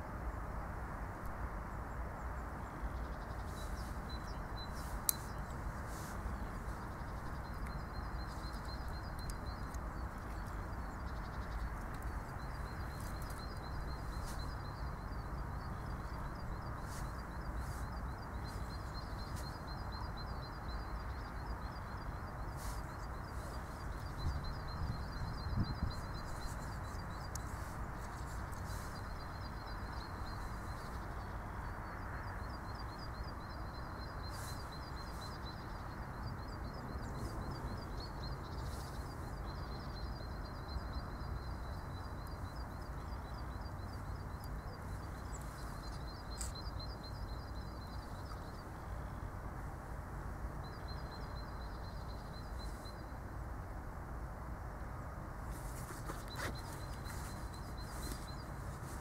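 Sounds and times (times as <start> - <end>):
outdoor background hiss: 0.0 - 59.0.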